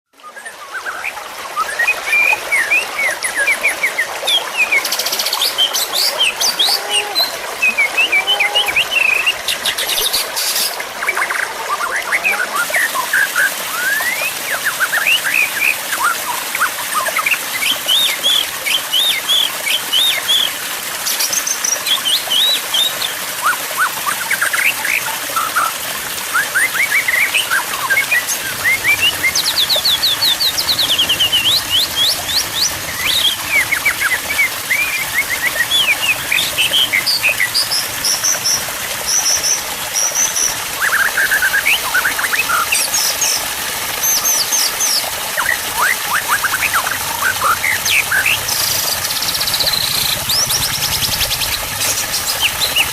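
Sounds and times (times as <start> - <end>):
songbirds singing: 0.2 - 52.9.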